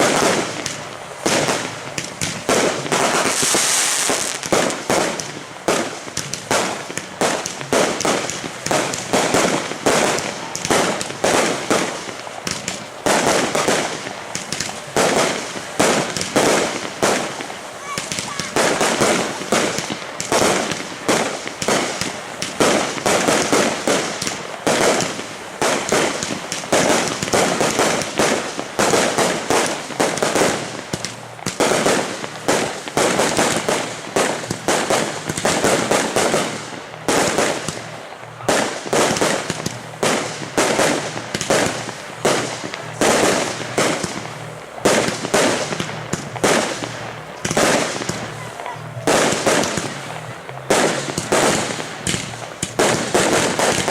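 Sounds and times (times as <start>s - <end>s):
fireworks barrage bangs: 0.0s - 53.9s.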